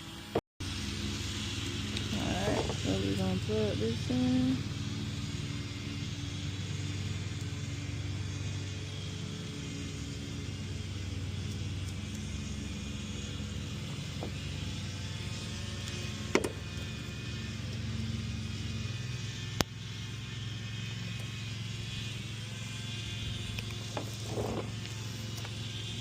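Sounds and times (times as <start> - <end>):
vehicle engine idling: 0.2 - 26.0.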